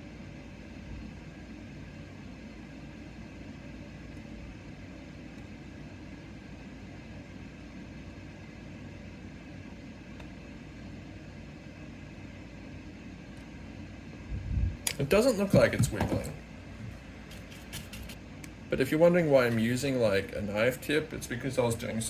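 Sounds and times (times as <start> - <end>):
machine hum and hiss: 0.0 - 22.0.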